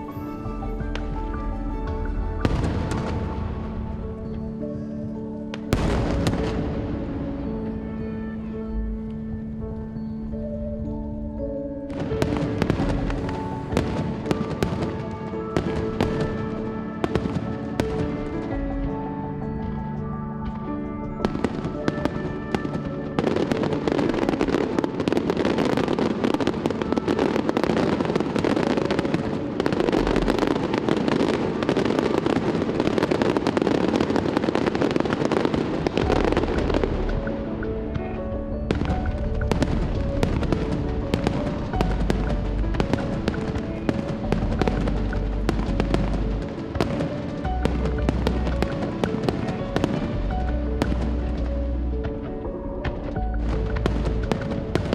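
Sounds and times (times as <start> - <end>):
fireworks bursting and crackling: 0.0 - 8.5, 11.8 - 54.9
background music: 0.0 - 54.9.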